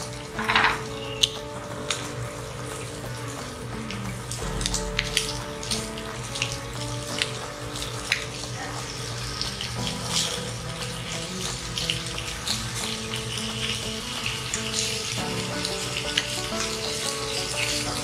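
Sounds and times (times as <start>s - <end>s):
background music: 0.0s - 18.0s
food sizzling in frying pan: 0.0s - 18.0s.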